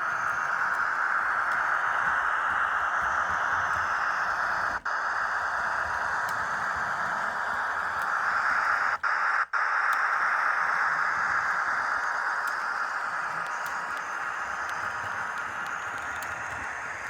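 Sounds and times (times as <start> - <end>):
wheels on track: 0.0 - 9.2, 9.9 - 17.0
model train motor whirring: 0.0 - 17.0.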